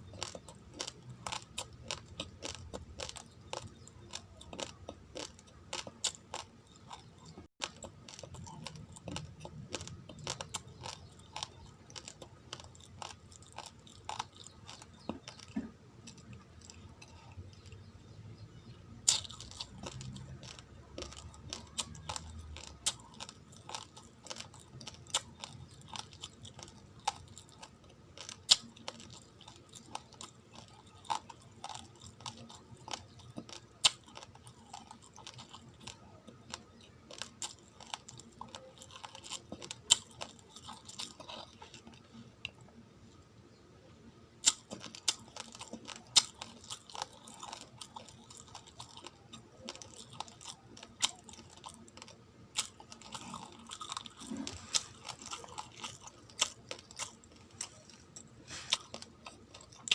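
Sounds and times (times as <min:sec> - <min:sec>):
rice grains being chewed: 0:00.0 - 0:17.9, 0:18.6 - 0:42.6, 0:44.4 - 0:59.9.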